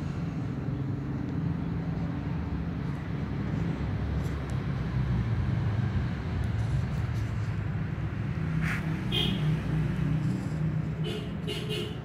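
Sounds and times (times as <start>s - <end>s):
motor vehicles rumbling: 0.0s - 12.0s.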